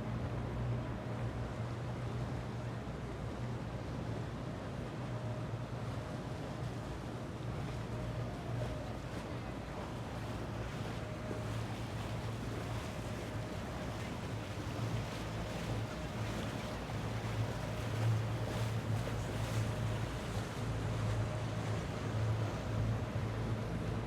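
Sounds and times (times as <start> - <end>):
boat engine humming: 0.0 - 24.0
water wash: 4.0 - 24.0.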